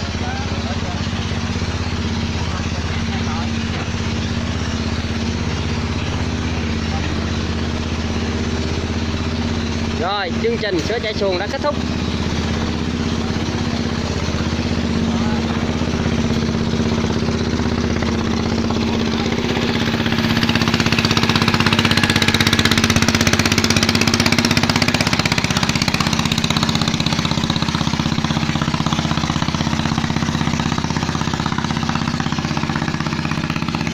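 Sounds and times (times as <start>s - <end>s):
engine running: 0.0s - 33.9s.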